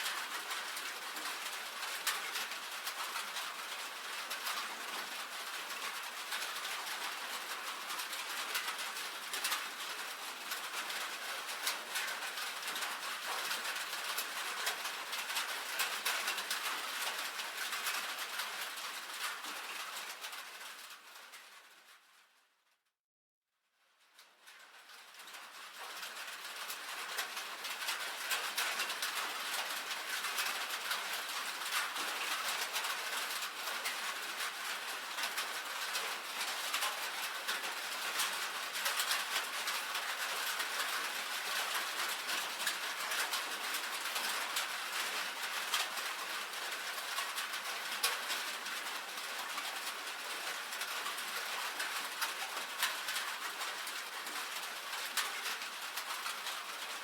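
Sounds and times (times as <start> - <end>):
rain on a tin roof: 0.0 - 22.9, 23.7 - 57.0.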